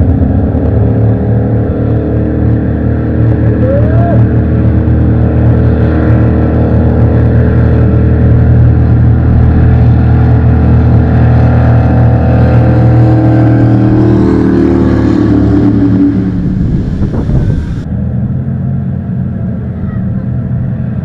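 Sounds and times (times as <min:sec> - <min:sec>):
jet boat engines droning: 0:00.0 - 0:21.0.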